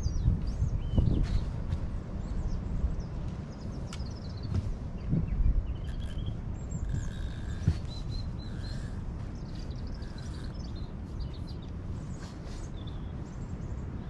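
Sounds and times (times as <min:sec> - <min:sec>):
small birds chirping: 0:00.0 - 0:14.0
wind on microphone: 0:00.0 - 0:14.0.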